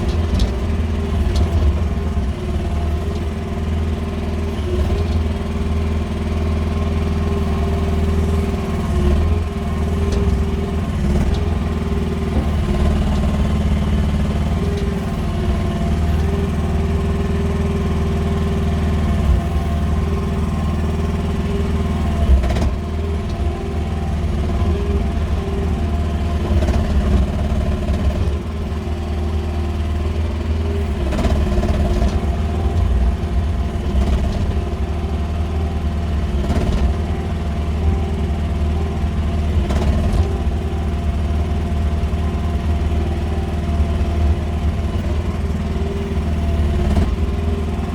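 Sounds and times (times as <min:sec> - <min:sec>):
excavator engine running: 0:00.0 - 0:47.9.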